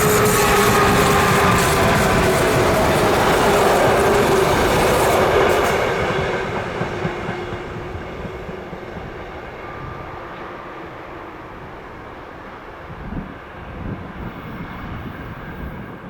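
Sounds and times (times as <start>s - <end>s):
train rolling on rails: 0.0s - 16.0s.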